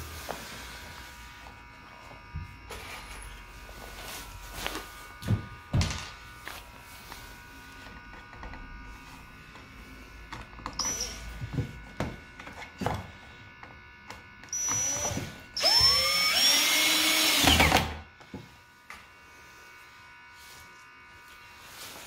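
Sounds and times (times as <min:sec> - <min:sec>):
faint electrical buzz: 0:00.0 - 0:22.0.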